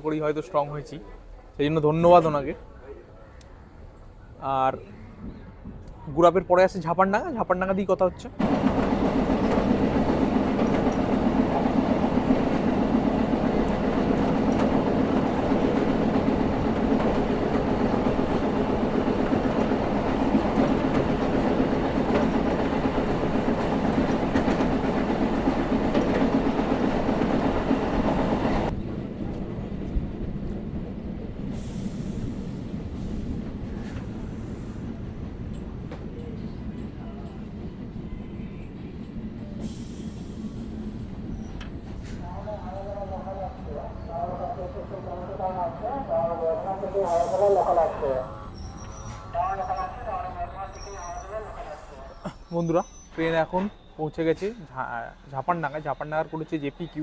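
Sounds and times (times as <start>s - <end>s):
train wheels rumbling: 8.4s - 54.6s.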